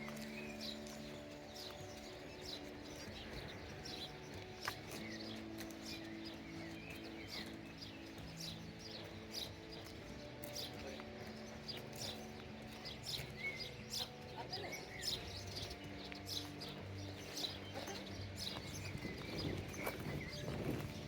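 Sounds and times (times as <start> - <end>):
birds chirping: 0.0 - 21.0
soft background music: 0.0 - 21.0.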